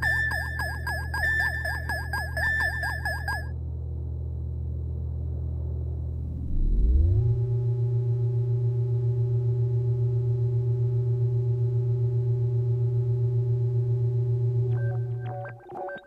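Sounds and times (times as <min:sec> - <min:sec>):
pulsing synthesized drone: 0:00.0 - 0:16.0.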